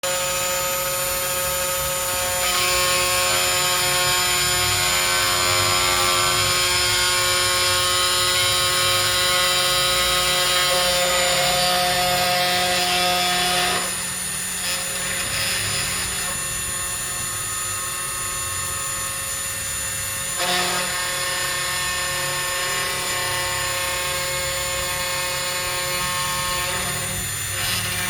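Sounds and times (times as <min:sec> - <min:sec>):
cnc router motor whine: 0:00.0 - 0:28.0.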